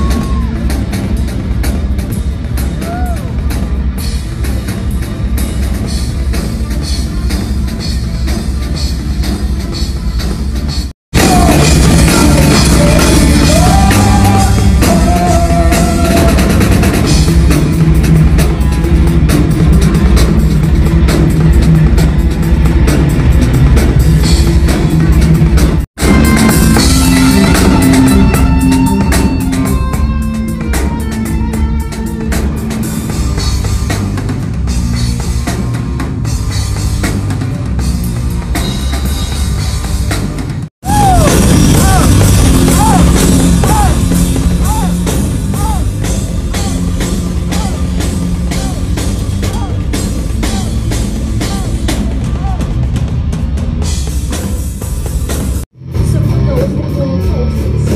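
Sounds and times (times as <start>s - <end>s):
live heavy rock band: 0.0s - 57.9s.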